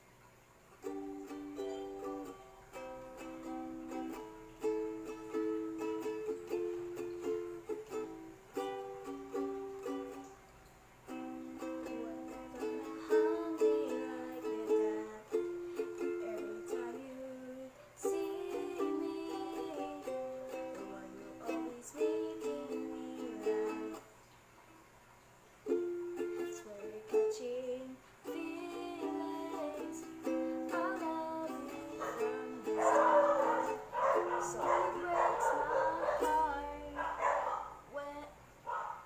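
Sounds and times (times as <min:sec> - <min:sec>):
plucked string instrument music: 0:00.7 - 0:24.1, 0:25.6 - 0:38.1.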